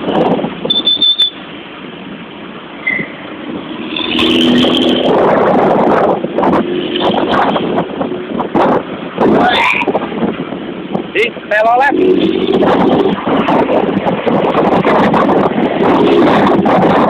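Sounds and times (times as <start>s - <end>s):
bus engine and exhaust: 0.0s - 17.0s.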